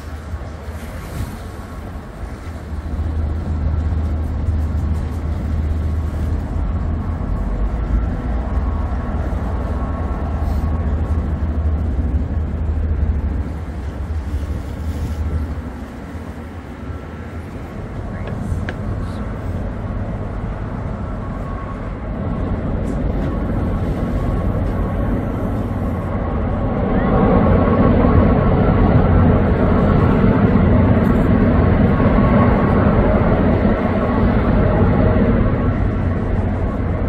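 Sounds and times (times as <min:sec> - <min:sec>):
boat diesel engines rumbling: 0:00.0 - 0:37.0.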